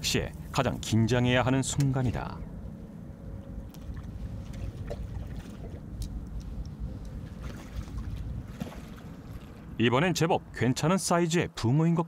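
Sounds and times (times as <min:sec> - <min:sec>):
wind rumbling on microphone: 0:00.0 - 0:10.8.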